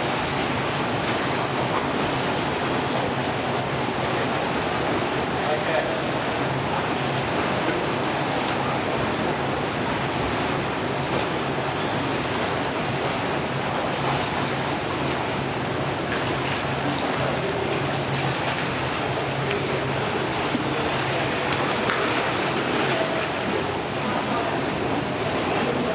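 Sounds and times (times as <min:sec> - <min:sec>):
faint splashes: 0:00.0 - 0:25.9
pool water sloshing: 0:00.0 - 0:25.9.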